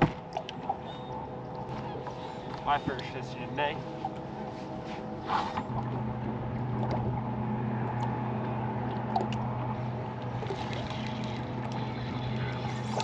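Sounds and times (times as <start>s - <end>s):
electric trolling motor humming: 0.4s - 13.0s.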